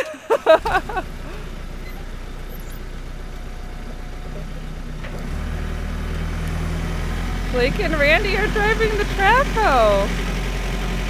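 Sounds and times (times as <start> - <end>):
excavator diesel engine revving: 0.0 - 11.0.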